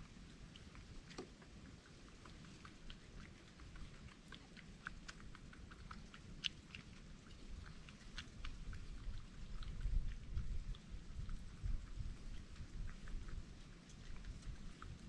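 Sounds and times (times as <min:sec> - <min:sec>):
small animal chewing and crunching: 0:00.0 - 0:15.0.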